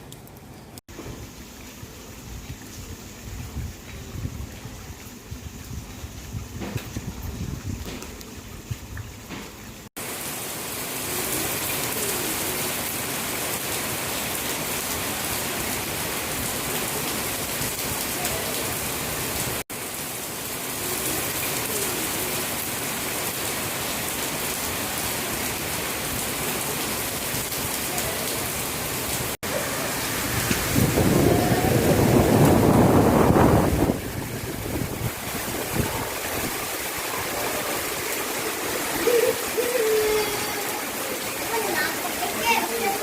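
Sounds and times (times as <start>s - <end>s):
heavy rain hissing: 1.0s - 43.0s.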